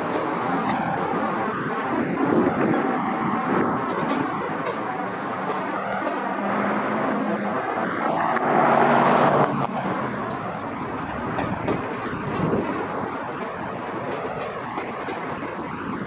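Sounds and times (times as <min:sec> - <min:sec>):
diesel locomotive drone: 0:00.0 - 0:16.0
highway traffic noise: 0:00.0 - 0:16.0
loud rush of noise: 0:00.0 - 0:16.0.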